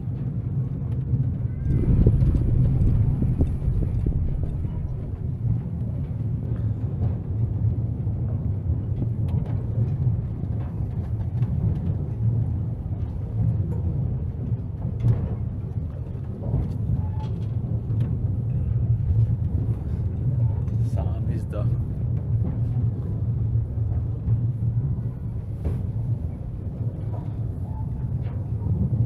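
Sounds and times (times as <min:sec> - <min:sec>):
low rumble of moving tram: 0:00.0 - 0:29.0
wind buffeting microphone: 0:00.0 - 0:29.0.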